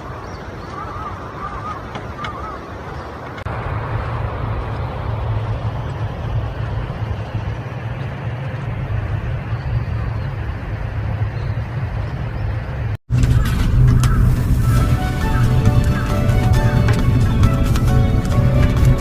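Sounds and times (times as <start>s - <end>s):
motor vehicle rumble: 0.0s - 19.0s.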